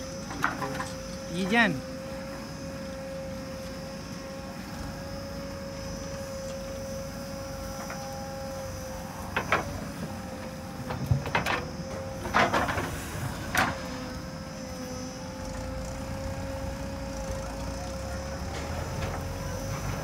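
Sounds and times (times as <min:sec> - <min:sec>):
diesel machinery engines running: 0:00.0 - 0:20.0.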